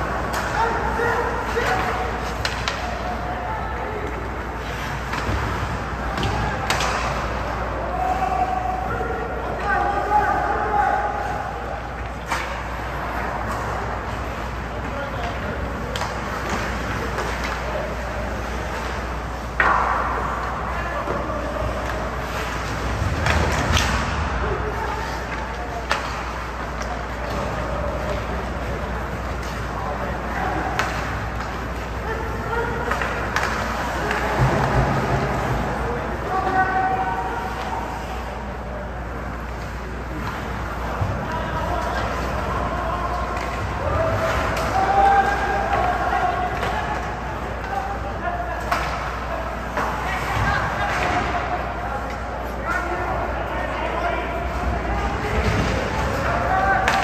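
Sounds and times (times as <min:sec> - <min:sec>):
faint voices: 0:00.0 - 0:57.0
hockey sticks and puck clacking: 0:00.0 - 0:57.0.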